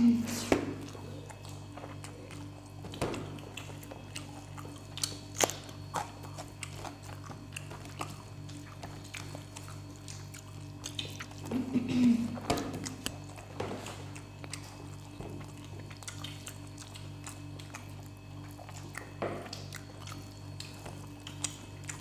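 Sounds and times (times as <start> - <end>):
steady low hum: 0.0 - 22.0
wet chewing clicks: 0.7 - 22.0
lip smacks: 0.8 - 11.4, 12.5 - 22.0.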